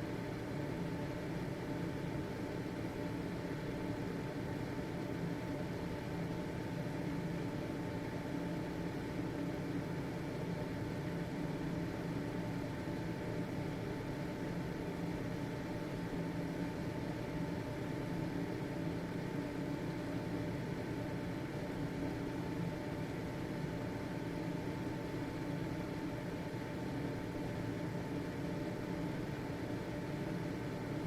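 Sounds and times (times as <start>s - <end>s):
ventilation fan running: 0.0s - 31.0s.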